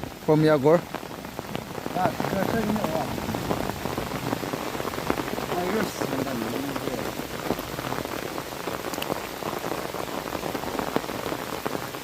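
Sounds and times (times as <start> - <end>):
heavy rain on umbrella fabric: 0.0 - 12.0.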